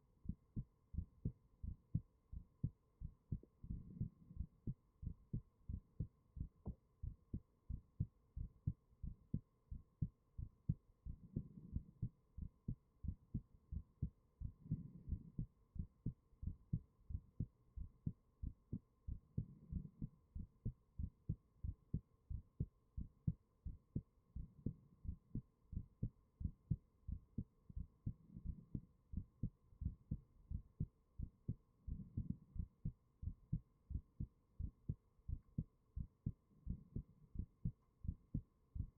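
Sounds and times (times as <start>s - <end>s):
faint steady hum: 0.0s - 38.9s
heartbeat thumps: 0.2s - 38.9s.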